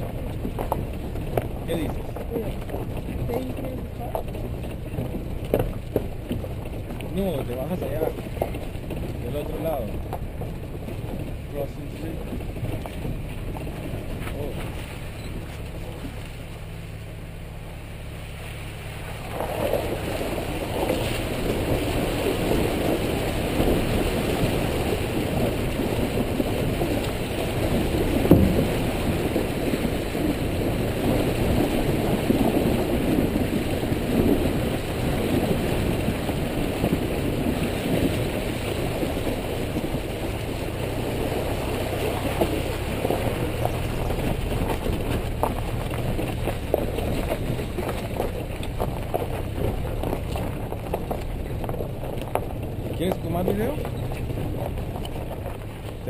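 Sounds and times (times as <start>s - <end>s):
gravel crunching under tyres: 0.0s - 56.0s
vehicle engine at low speed: 0.0s - 56.0s
water sloshing: 0.0s - 56.0s.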